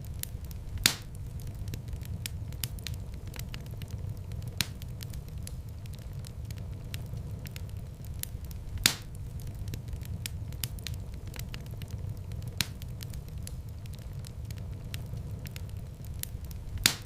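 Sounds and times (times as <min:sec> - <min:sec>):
loud fire pops: 0:00.0 - 0:17.0
wood fire crackling: 0:00.0 - 0:17.0.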